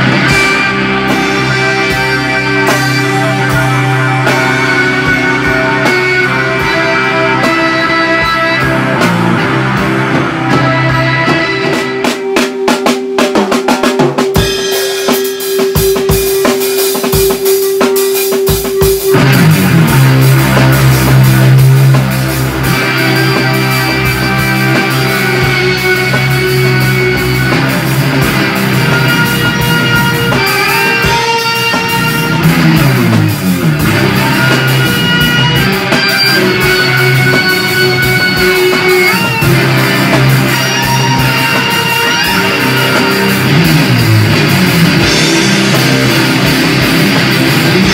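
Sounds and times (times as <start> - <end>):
drum kit hits: 0.0 - 47.9
electric guitar rock riffs: 0.0 - 47.9.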